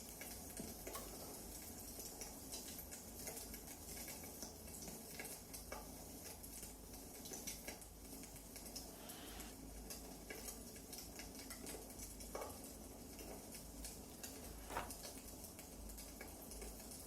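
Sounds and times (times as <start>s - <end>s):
firewood crackling softly: 0.1s - 16.9s.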